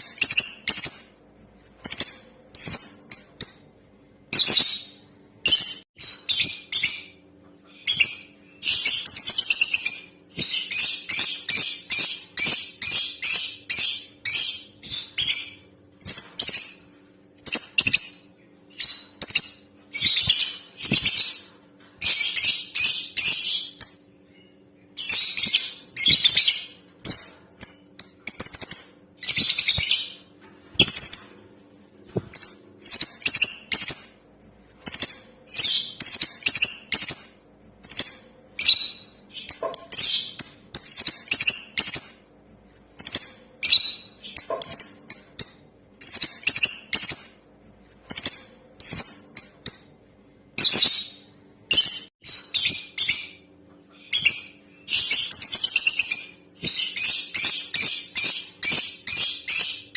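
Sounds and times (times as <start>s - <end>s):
lovebird chirping: 0.0s - 31.6s, 32.2s - 42.4s, 43.0s - 47.5s, 48.1s - 59.9s.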